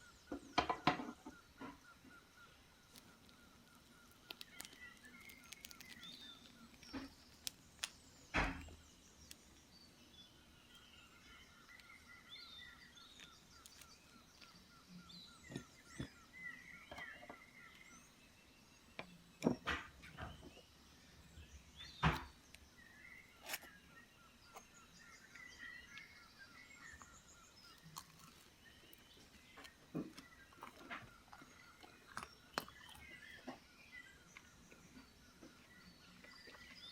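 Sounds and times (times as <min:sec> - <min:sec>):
faint bird chirps: 0:00.0 - 0:36.9.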